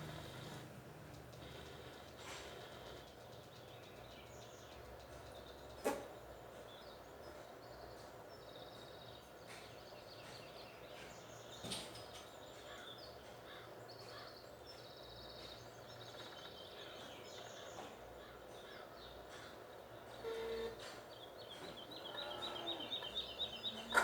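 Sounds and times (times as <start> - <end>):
small birds trilling: 0.0 - 24.0.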